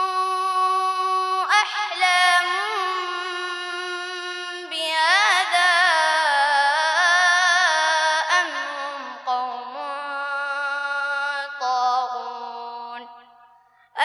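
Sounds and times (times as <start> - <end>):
boy chanting melodically: 0.0 - 14.0.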